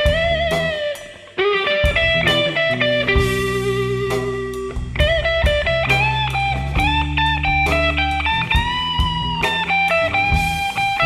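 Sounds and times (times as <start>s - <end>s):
held bass: 0.0s - 0.9s, 1.8s - 11.0s
electric guitar lead with bent notes: 0.0s - 11.0s
steady drum beat: 0.0s - 11.0s.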